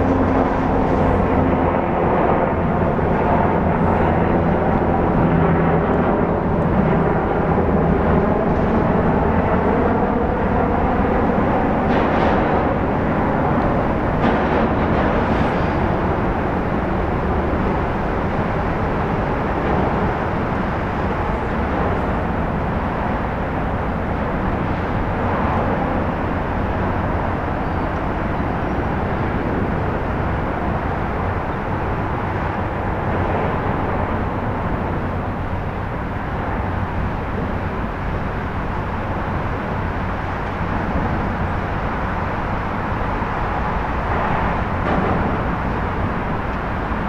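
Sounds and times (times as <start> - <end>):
boat turbines and water jets rushing: 0.0 - 47.0.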